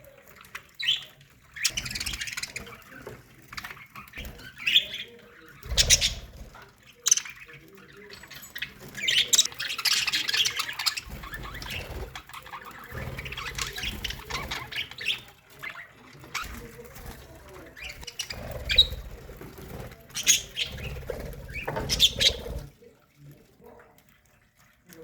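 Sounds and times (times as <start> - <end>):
budgerigars chattering and chirping: 0.4 - 22.7.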